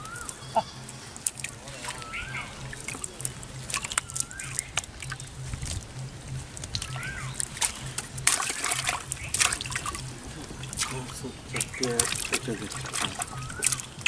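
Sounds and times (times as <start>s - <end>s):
water splashing in bucket: 1.2s - 14.0s.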